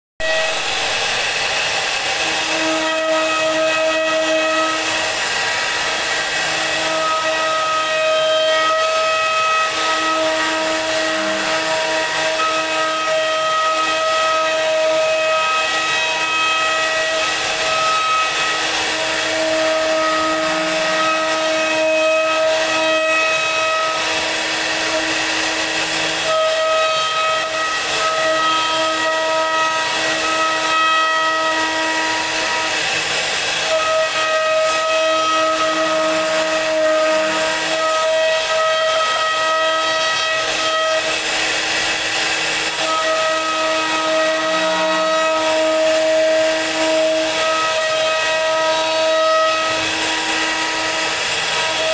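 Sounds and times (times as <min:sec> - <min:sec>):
hiss of wood cutting: 0:00.2 - 0:51.9
router spindle whining: 0:00.2 - 0:51.9.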